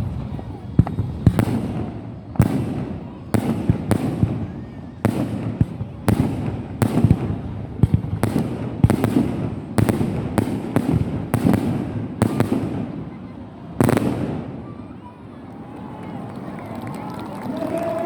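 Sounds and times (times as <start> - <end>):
fireworks bangs with echo: 0.0 - 15.4.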